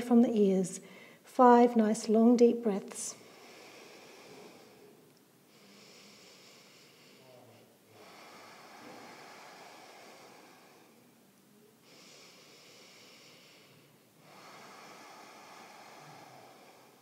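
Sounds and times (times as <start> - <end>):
woman breathing deeply: 0.8 - 1.3, 3.1 - 17.0.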